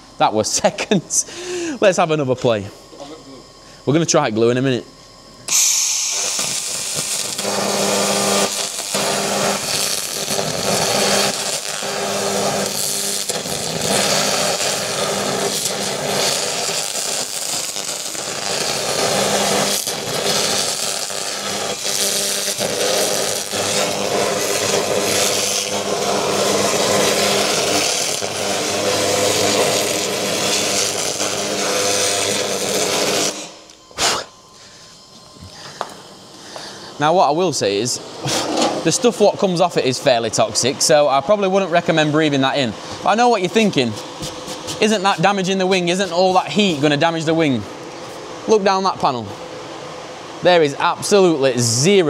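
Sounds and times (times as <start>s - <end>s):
constant low hum: 0.0s - 51.6s
laser cleaning hiss and crackle: 5.1s - 49.3s.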